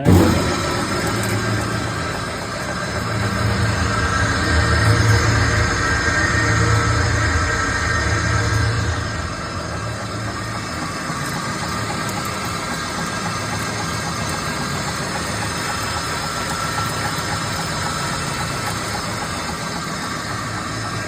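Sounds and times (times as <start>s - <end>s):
mixer grinder motor humming: 0.0s - 21.0s.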